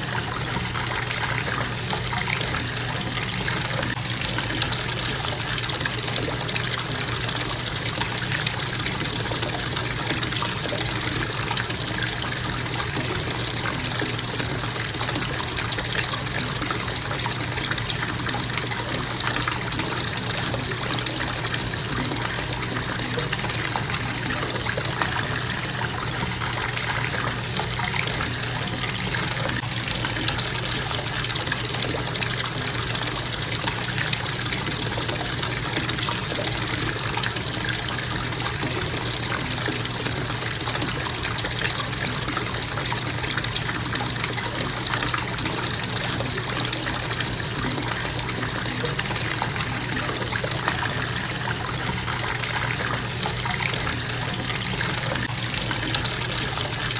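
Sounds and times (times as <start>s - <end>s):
faucet water splashing into tub: 0.0s - 56.9s.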